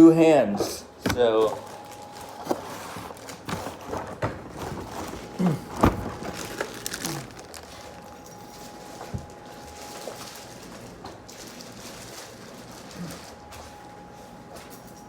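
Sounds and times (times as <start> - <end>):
packaging rustling and crinkling: 1.1 - 14.0.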